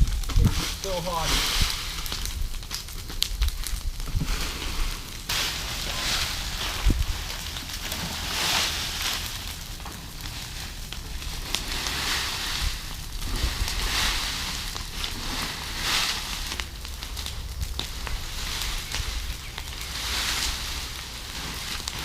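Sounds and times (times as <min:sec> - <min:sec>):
low rumble: 0:00.0 - 0:21.7
fire crackling and popping: 0:00.0 - 0:22.0
leaves burning with rushing hiss: 0:00.0 - 0:22.0.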